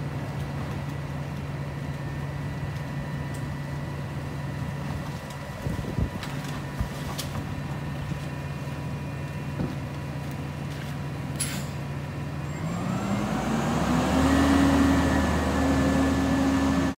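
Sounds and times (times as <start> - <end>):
garbage truck engine: 0.0 - 16.9.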